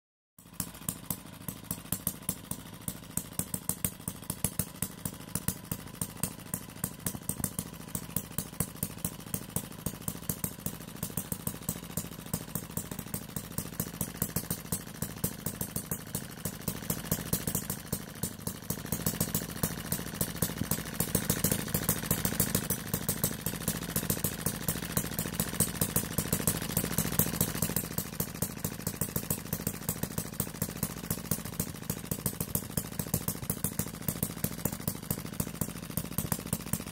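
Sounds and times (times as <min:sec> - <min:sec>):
small petrol engine popping: 0:00.4 - 0:36.9.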